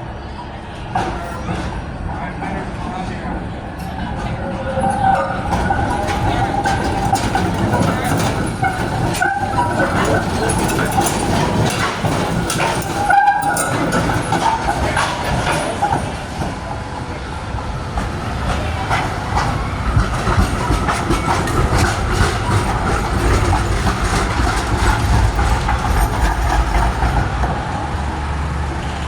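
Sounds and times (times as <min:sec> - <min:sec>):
tram rumbling on rails: 0:00.0 - 0:29.0
wheels clicking on track: 0:00.2 - 0:29.0.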